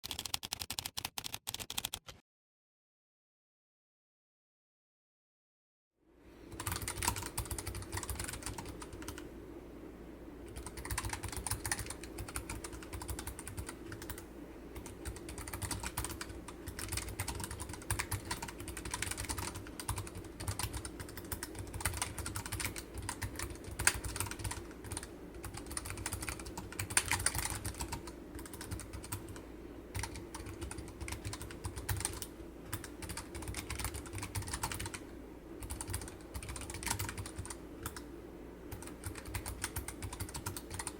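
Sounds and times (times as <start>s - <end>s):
keyboard typing clicks: 0.0s - 2.2s, 6.5s - 9.2s, 10.5s - 14.2s, 14.8s - 35.0s, 35.6s - 38.1s, 38.7s - 40.9s.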